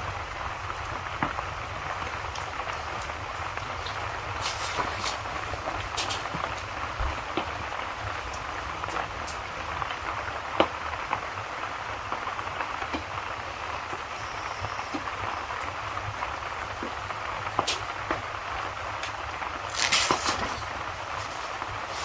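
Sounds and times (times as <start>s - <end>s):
rain hiss: 0.0s - 22.0s
wood fire popping and crackling: 0.0s - 22.0s.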